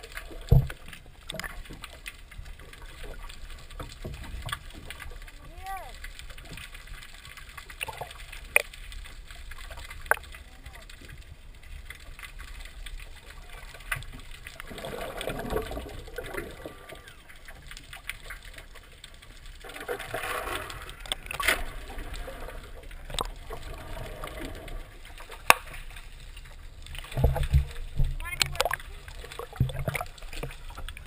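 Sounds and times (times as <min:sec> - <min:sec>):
underwater water wash: 0:00.0 - 0:31.0.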